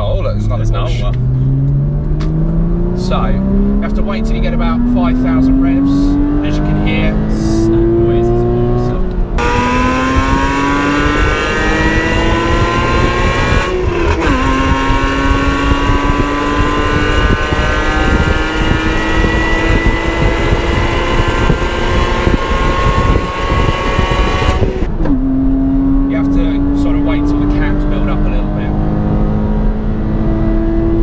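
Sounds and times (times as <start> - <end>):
car engine accelerating hard: 0.2 - 31.0.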